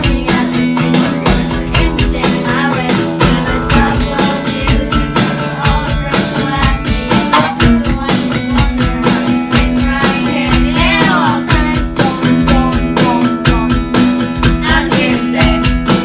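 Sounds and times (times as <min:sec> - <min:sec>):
guitar: 0:00.0 - 0:16.0
steady drum beat: 0:00.0 - 0:16.0.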